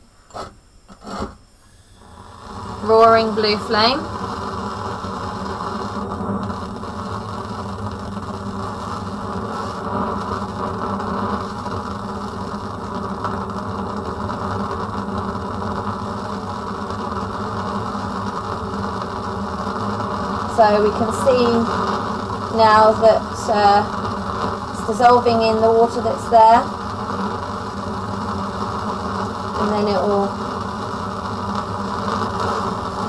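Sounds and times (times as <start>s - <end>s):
gas burner flame roaring: 0.0s - 33.0s.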